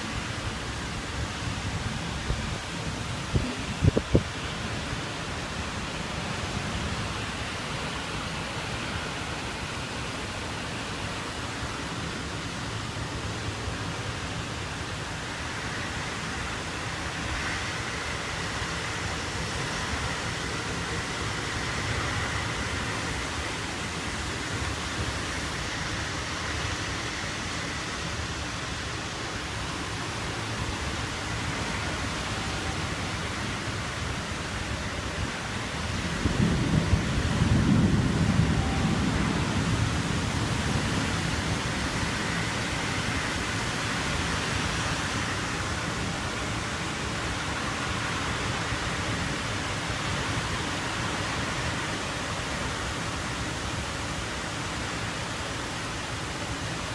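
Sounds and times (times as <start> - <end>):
rain falling steadily: 0.0 - 56.9.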